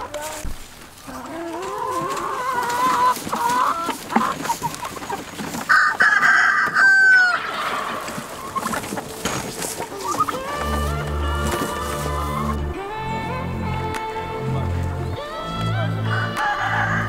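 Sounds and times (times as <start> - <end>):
chicken squawking call: 0.0 - 17.0
chickens clucking: 0.0 - 17.0.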